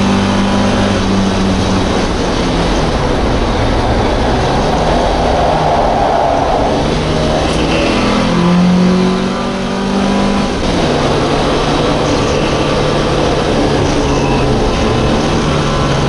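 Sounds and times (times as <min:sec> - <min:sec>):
car engine running hard: 0:00.0 - 0:16.0.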